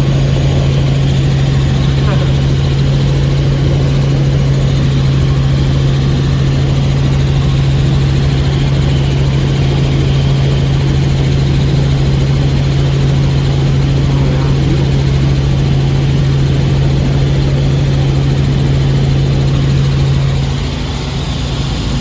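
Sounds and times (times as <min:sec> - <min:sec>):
helicopter engine and rotors droning: 0:00.0 - 0:22.0.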